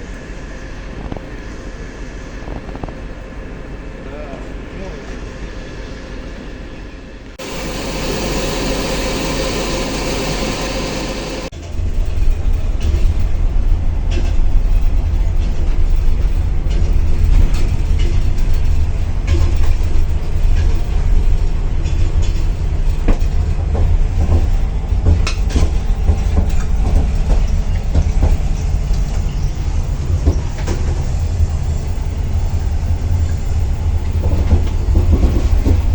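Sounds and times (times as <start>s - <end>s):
train carriage rumble: 0.0s - 35.9s.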